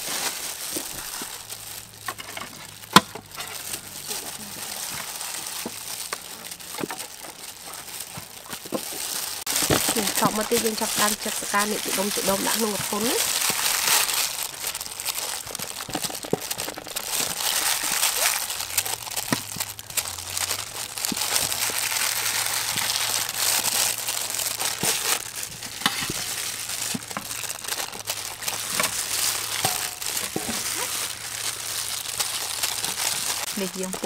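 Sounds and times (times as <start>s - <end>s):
plastic gloves crinkling: 0.0s - 34.0s.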